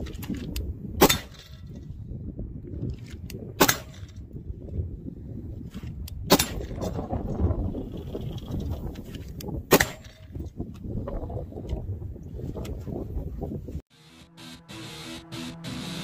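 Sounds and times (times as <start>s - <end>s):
wind rumble on microphone: 0.0s - 13.9s.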